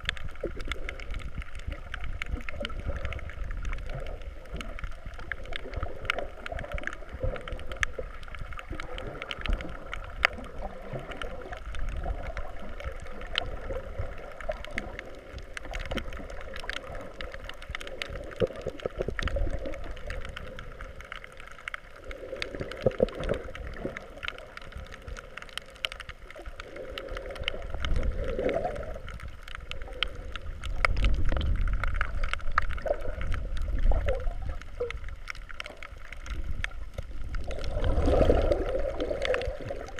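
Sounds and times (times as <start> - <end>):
underwater clicks and crackles: 0.0 - 39.9
underwater rumble of water: 0.0 - 39.9.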